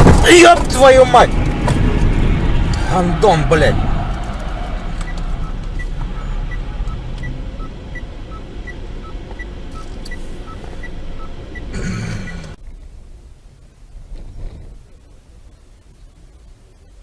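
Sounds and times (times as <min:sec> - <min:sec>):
low hum of car: 0:00.0 - 0:17.0.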